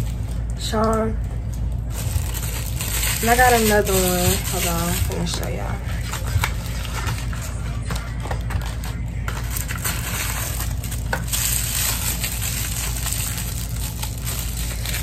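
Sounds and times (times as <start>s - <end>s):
steady low hum: 0.0s - 15.0s
package rustling and clicking: 1.5s - 15.0s.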